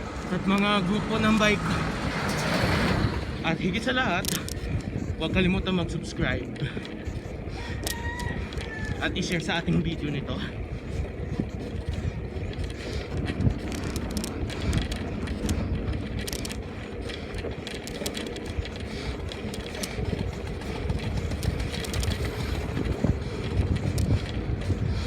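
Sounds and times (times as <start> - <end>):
bicycle clicks and rattles: 0.0 - 25.0
wind and road noise: 0.0 - 25.0.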